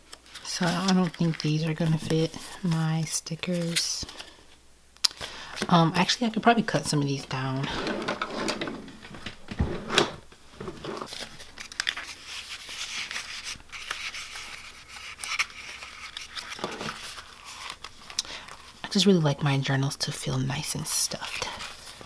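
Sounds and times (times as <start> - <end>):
paper rustling and crinkling: 0.0 - 19.0, 20.1 - 22.0.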